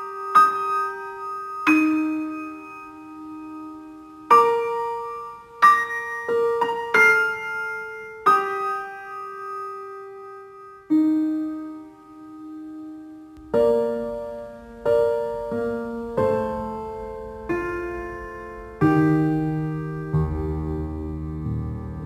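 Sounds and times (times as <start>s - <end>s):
slow gentle piano music: 0.0s - 22.0s.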